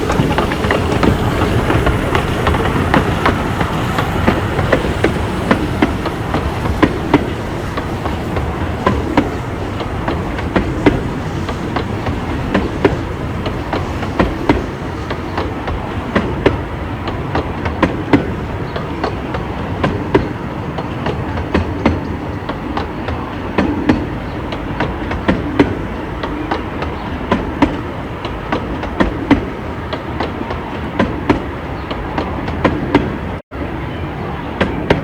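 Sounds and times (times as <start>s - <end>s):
miniature train wheels rumbling: 0.0s - 33.4s
wheels clicking over rail joints: 0.0s - 35.0s.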